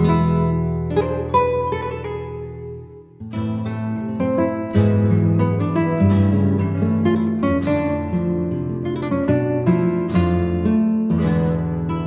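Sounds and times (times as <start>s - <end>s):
plucked string music: 0.0s - 12.0s.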